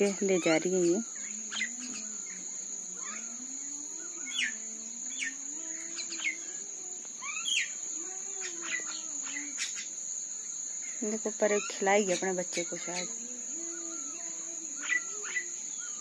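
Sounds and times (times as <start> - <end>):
birds chirping and calling: 0.0 - 10.0, 10.8 - 16.0
high-pitched insect drone: 0.0 - 16.0.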